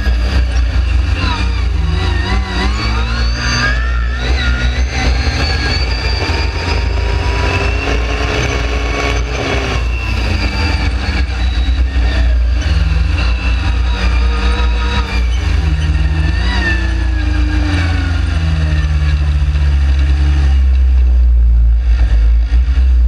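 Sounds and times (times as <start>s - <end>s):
dune buggy engine running: 0.0s - 23.0s.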